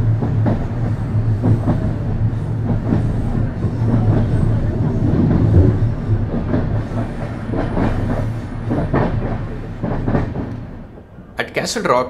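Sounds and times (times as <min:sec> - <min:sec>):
wheels clacking over rail joints: 0:00.0 - 0:11.2
train coaches rumbling: 0:00.0 - 0:12.0.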